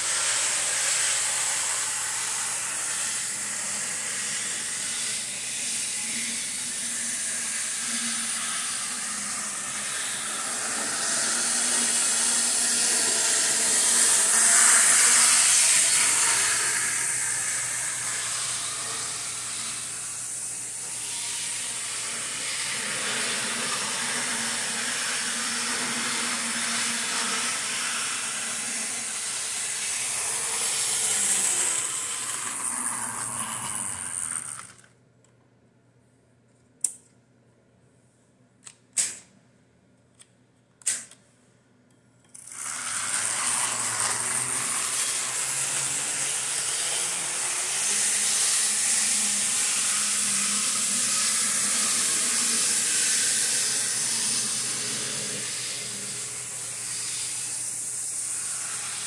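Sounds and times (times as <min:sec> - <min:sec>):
model steam locomotive hissing: 0:00.0 - 0:34.7, 0:42.4 - 0:59.0.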